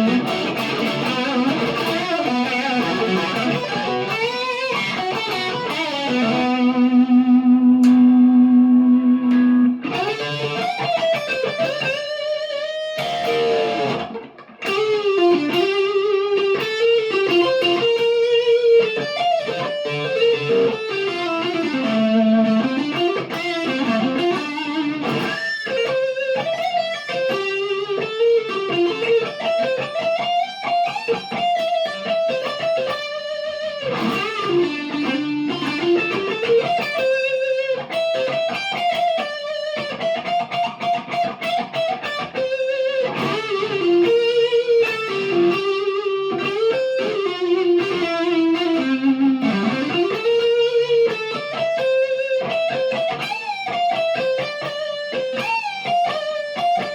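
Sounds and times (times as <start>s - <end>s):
electric guitar melody and chords: 0.0s - 56.9s.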